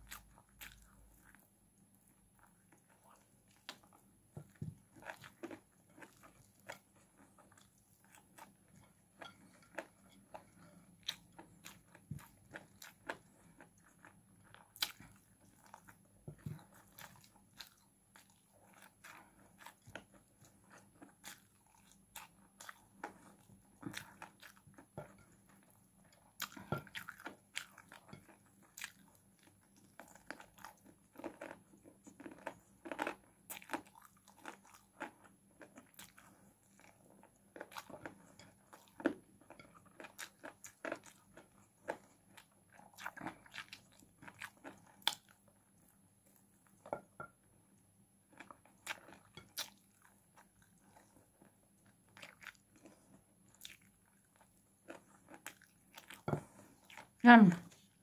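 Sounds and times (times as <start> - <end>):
person chewing: 0.0 - 47.2, 48.3 - 58.0.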